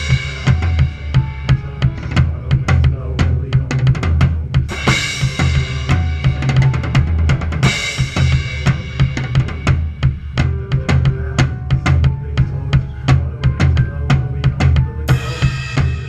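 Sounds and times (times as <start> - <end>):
drum kit playing: 0.0 - 16.0
recorded song bass line: 0.0 - 16.0.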